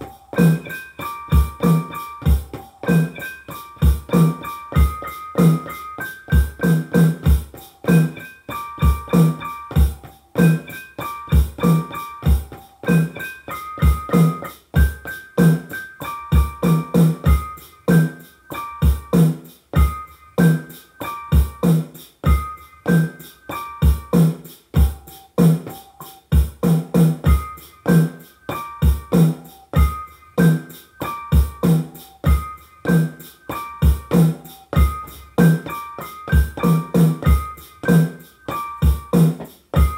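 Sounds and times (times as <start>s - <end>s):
hip hop beat: 0.0s - 39.9s.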